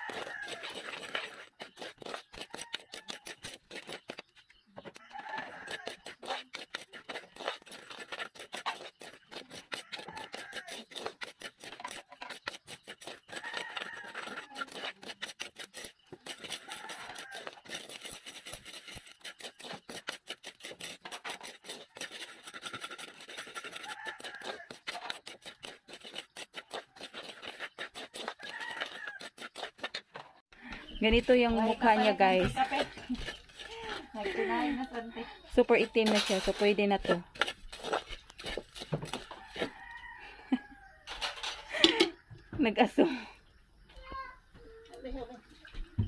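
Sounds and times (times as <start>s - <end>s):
metal spatula scraping wok: 0.0s - 30.4s, 31.1s - 40.0s, 41.1s - 42.2s.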